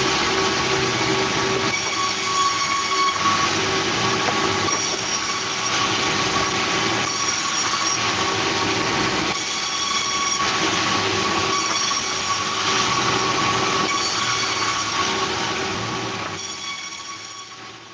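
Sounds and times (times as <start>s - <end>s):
saw screeching through wood: 0.0s - 17.7s.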